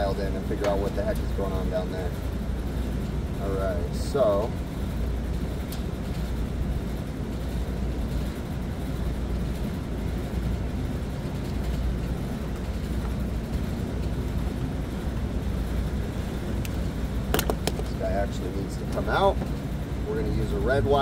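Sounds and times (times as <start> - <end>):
low machinery rumble: 0.0 - 21.0.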